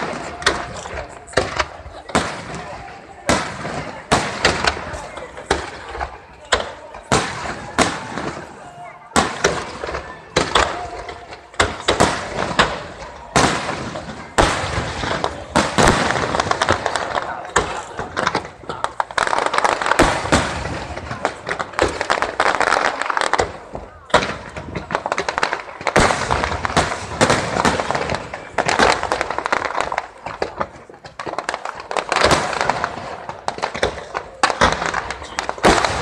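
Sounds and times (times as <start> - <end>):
crowd voices: 0.0 - 36.0
fireworks bursting and crackling: 0.0 - 36.0.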